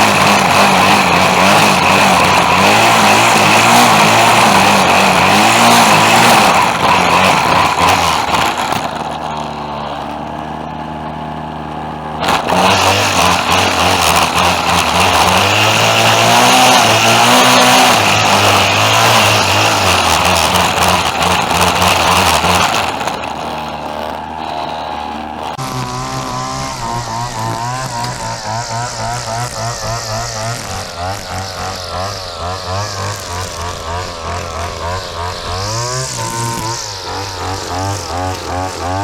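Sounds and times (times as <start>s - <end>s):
small petrol engine running: 0.0s - 39.0s.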